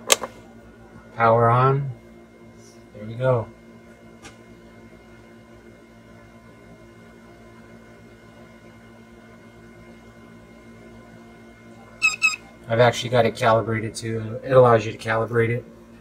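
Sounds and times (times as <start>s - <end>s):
cooling fan: 0.0s - 16.0s
soldering station hum: 0.0s - 16.0s.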